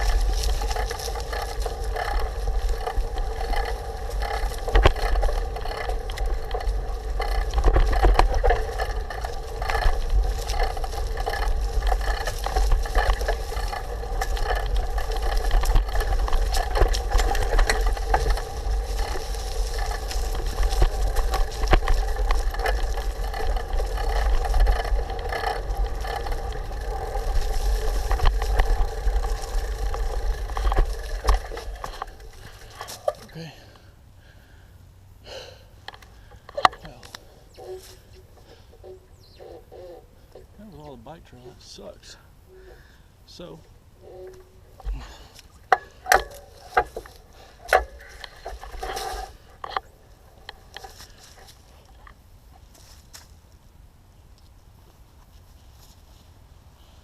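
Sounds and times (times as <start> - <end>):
bicycle frame rattling: 0.0 - 34.6, 35.3 - 57.0
bicycle tyres humming: 0.0 - 57.0.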